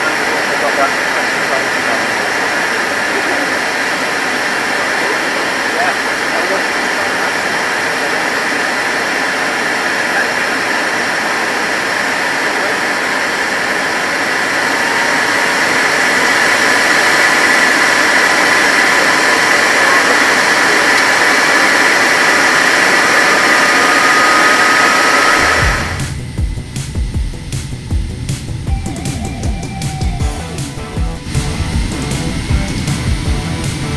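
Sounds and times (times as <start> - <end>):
jet engines rushing and whining: 0.0 - 33.9.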